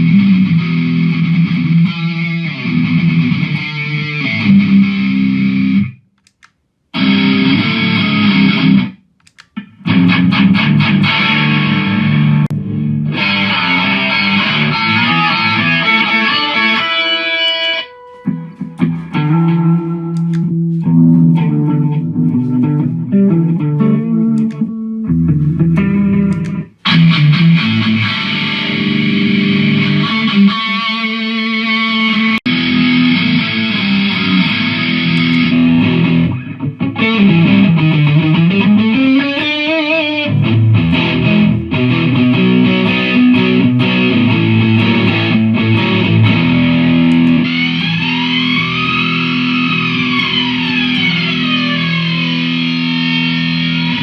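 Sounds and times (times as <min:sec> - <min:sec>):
distorted electric guitar riffs: 0:00.0 - 0:06.0, 0:06.9 - 0:54.0.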